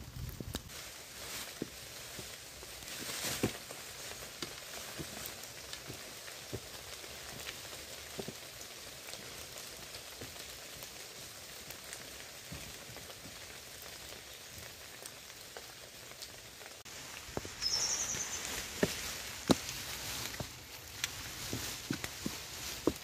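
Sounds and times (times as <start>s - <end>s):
light rain hissing: 0.0s - 23.0s
raindrops ticking: 1.6s - 23.0s.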